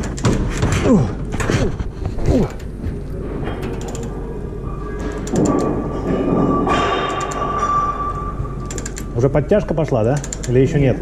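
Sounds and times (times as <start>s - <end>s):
metal creaking and grinding: 0.0s - 11.0s.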